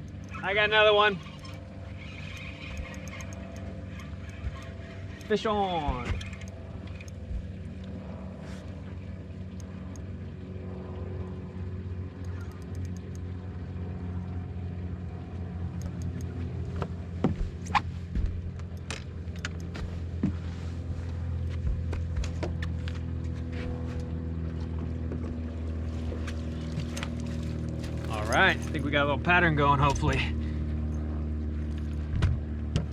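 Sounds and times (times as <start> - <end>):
boat motor humming: 0.0 - 32.9.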